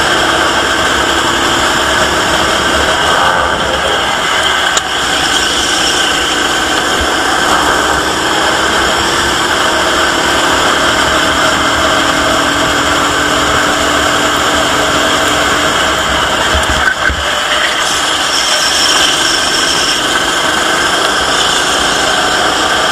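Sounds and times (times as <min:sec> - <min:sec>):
go-kart engine running: 0:00.0 - 0:22.9.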